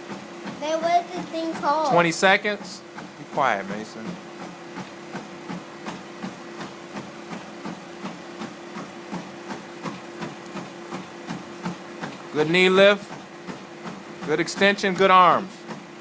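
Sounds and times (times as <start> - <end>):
feet thudding on treadmill belt: 0.0 - 16.0
treadmill motor humming: 0.0 - 16.0.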